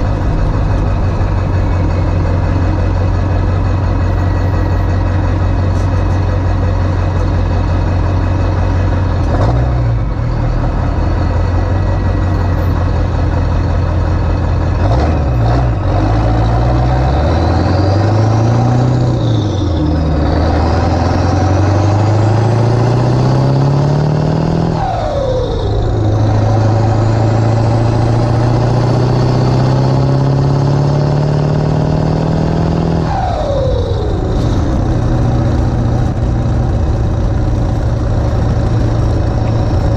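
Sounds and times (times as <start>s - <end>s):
diesel engine accelerating: 0.0s - 39.9s.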